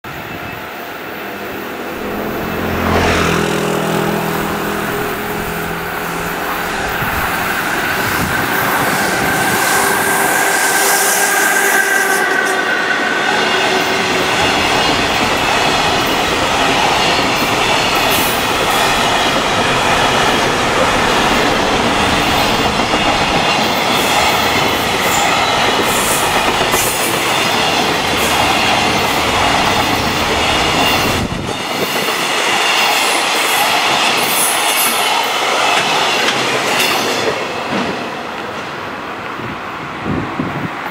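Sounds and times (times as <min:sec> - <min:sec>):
electric locomotive humming: 0:00.1 - 0:40.9
train wheels rumbling on rail: 0:00.1 - 0:40.9.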